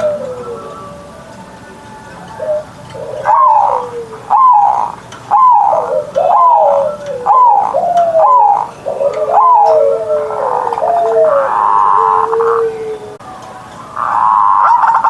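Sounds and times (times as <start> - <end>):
dove cooing: 0.0 - 13.2, 13.9 - 15.0.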